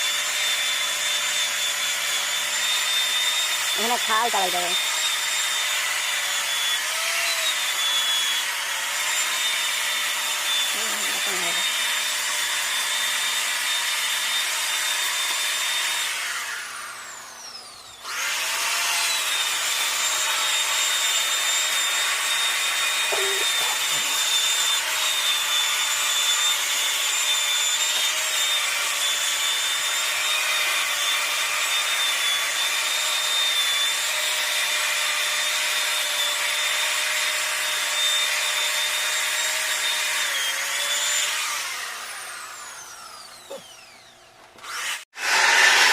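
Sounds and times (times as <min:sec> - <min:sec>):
power tool cutting wood: 0:00.0 - 0:45.9.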